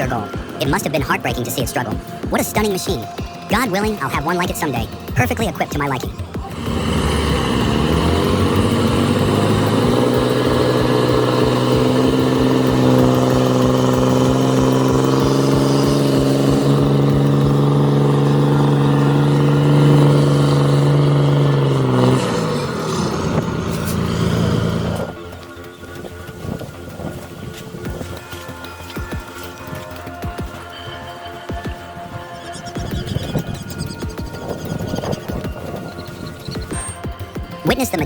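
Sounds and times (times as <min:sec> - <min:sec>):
truck diesel engine revving: 0:00.0 - 0:38.0.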